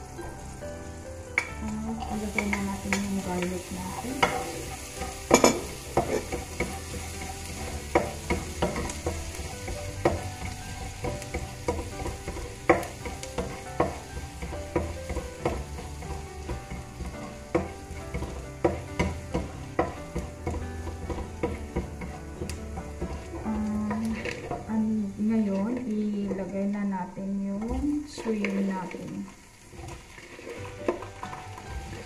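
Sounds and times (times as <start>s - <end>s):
garlic sizzling in butter: 0.0s - 32.0s
spoon scraping and knocking pan: 1.4s - 26.8s, 27.6s - 32.0s.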